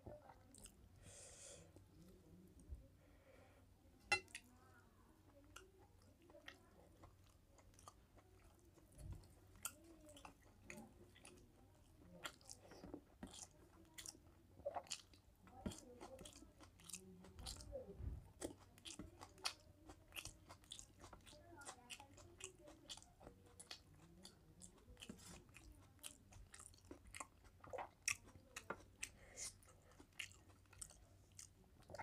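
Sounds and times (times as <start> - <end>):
man chewing food: 5.3 - 17.7, 18.3 - 32.0.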